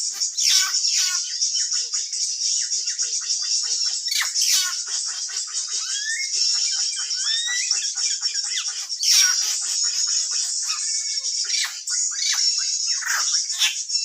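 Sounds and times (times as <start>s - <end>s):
high bird chirps: 0.0s - 14.0s.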